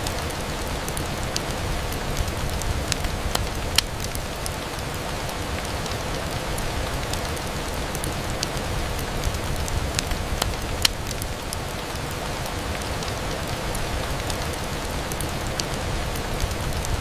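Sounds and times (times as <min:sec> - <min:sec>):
fireplace crackling: 0:00.0 - 0:17.0
rain on a window: 0:00.0 - 0:17.0.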